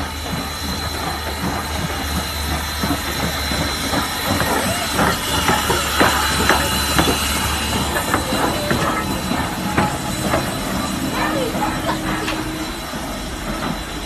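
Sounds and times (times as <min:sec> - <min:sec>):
steam locomotive hissing steam: 0:00.0 - 0:14.0.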